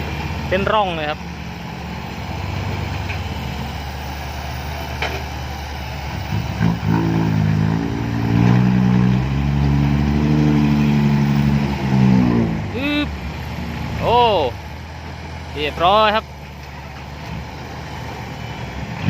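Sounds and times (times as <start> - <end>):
dump truck diesel engine revving: 0.0 - 19.0.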